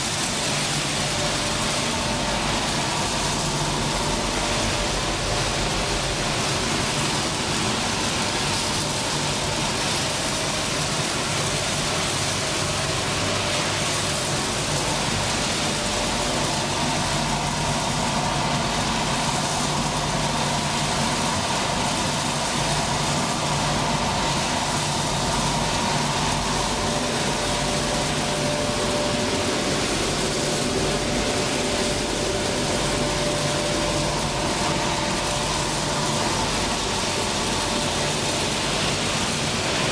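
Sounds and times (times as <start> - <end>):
motor and fan hum: 0.0 - 39.9
production line machinery: 0.0 - 39.9.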